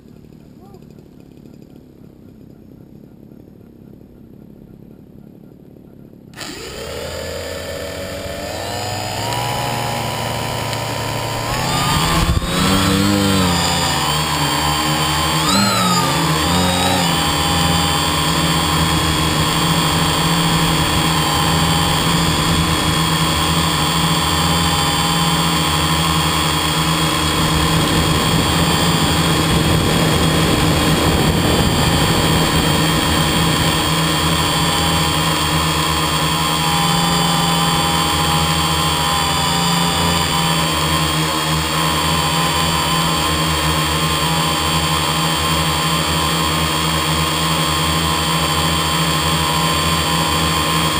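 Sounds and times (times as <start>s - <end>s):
model plane engine and propeller: 0.0s - 50.9s.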